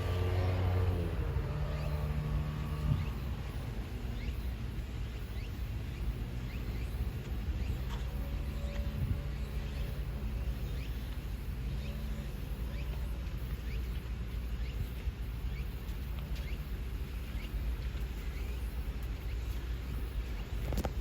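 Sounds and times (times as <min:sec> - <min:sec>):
bird chirps: 0:00.0 - 0:21.0
engine idling: 0:00.0 - 0:21.0.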